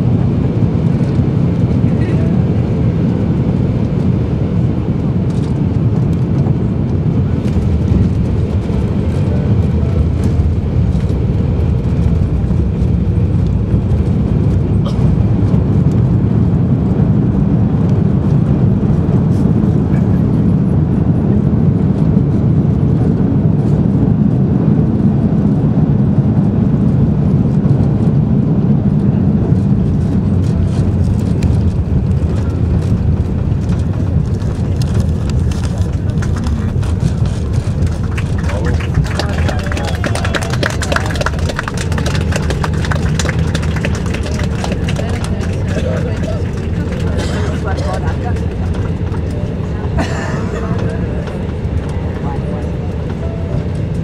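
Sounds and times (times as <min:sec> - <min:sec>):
jet cabin rumble on runway: 0:00.0 - 0:54.0.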